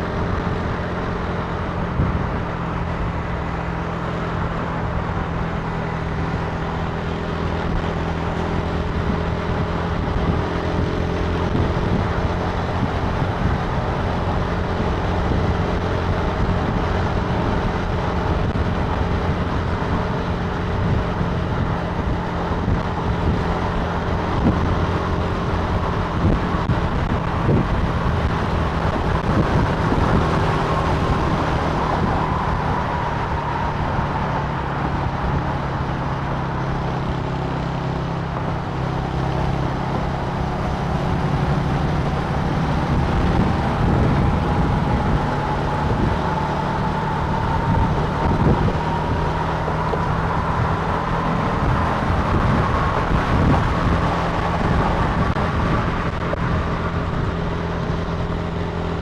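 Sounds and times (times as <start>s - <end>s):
motorcycle engine cruising: 0.0s - 59.0s
road and wind noise: 0.0s - 59.0s.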